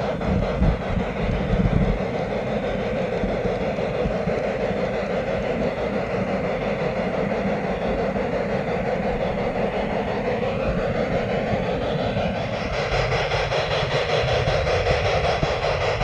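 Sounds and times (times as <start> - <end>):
model train wheels rumbling on rail: 0.0 - 16.0.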